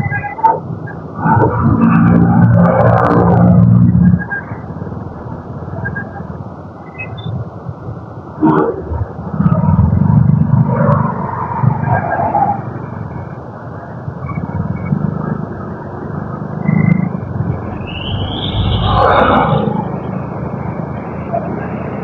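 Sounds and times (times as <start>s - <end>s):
road noise: 0.0s - 22.0s
wind rumbling on microphone: 0.0s - 22.0s.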